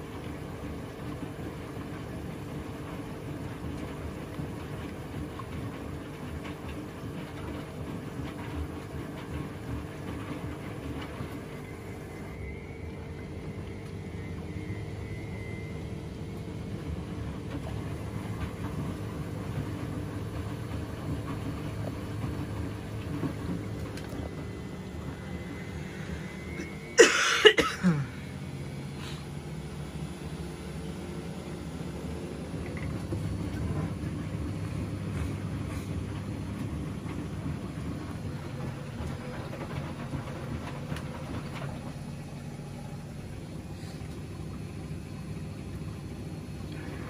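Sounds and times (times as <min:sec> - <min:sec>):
washing machine humming: 0:00.0 - 0:47.0.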